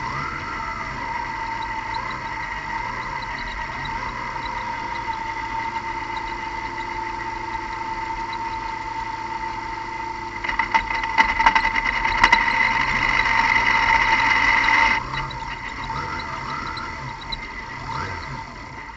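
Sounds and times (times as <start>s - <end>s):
car engine whining: 0.0s - 18.9s
engine crackles: 0.0s - 18.9s.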